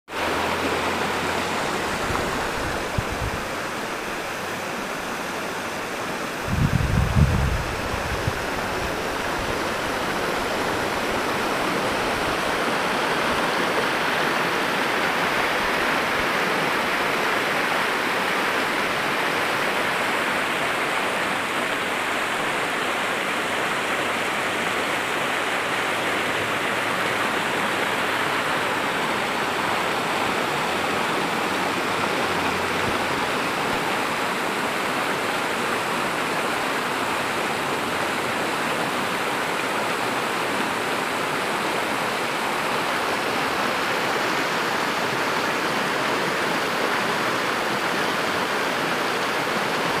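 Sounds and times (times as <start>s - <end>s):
creek water rushing over rocks: 0.1s - 50.0s.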